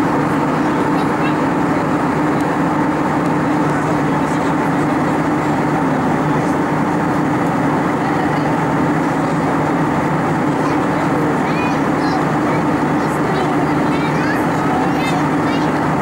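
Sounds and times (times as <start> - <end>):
airplane cabin noise: 0.0 - 16.0.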